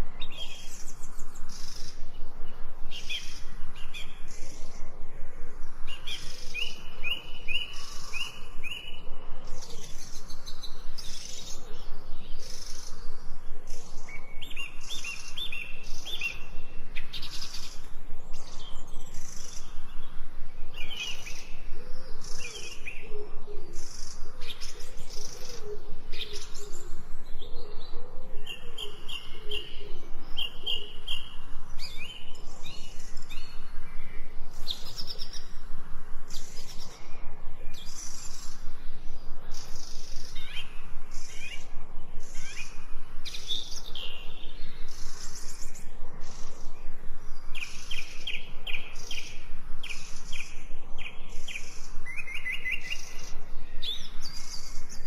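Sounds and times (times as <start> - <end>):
birds singing in chorus: 0.0 - 55.0.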